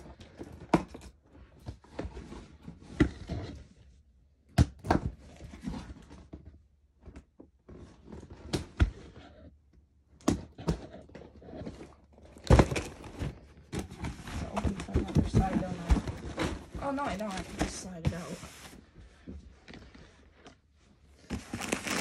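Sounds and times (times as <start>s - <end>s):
cardboard rustling and scraping: 0.2s - 4.0s, 5.2s - 9.5s, 10.6s - 20.2s, 21.2s - 22.0s.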